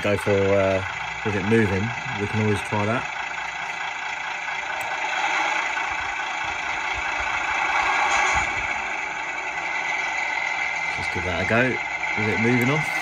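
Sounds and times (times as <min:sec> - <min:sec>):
diesel engine sound from small speaker: 0:00.0 - 0:13.0.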